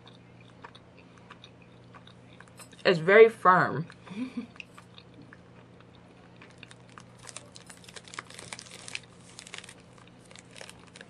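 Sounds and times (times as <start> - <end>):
person chewing soft food: 0.0 - 2.8, 3.9 - 11.0.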